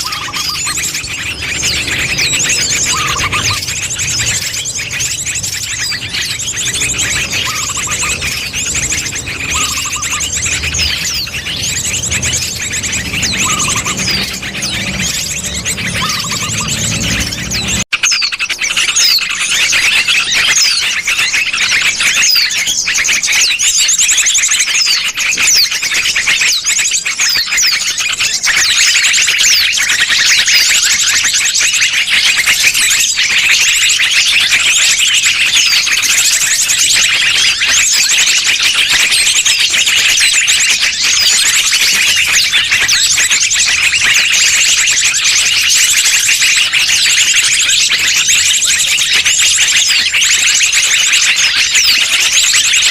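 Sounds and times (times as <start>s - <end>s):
small birds chirping and trilling: 0.0s - 52.9s.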